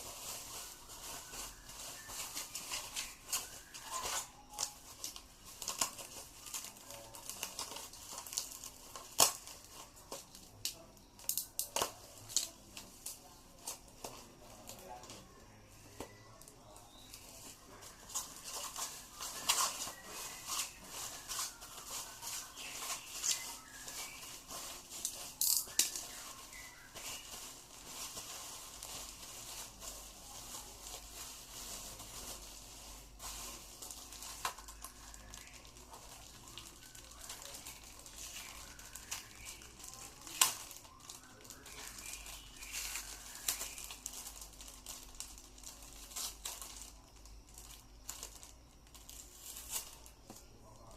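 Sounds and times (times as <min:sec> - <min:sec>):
plastic packaging crinkling: 0:00.0 - 0:50.9.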